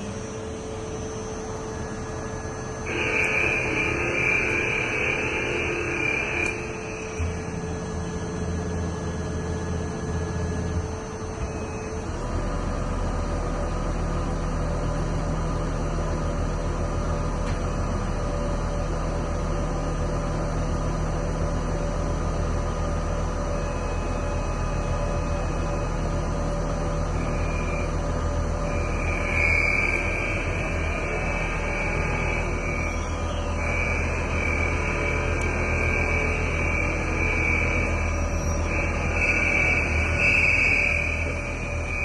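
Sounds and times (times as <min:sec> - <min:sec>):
lathe motor hum: 0:00.0 - 0:18.3, 0:19.0 - 0:42.0
deeper hum: 0:00.0 - 0:42.0.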